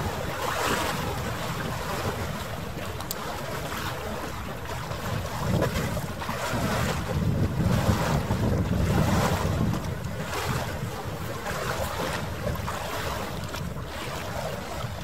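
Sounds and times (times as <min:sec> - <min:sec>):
harbour water noise: 0:00.0 - 0:15.0
wind buffeting microphone: 0:00.0 - 0:15.0.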